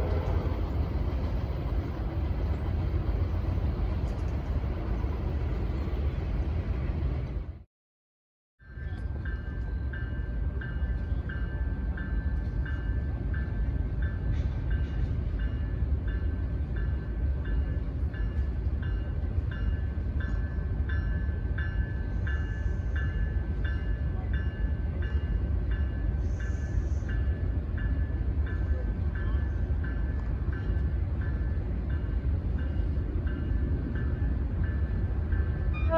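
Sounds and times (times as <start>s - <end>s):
train passing rumble: 0.0s - 7.7s, 8.6s - 35.9s.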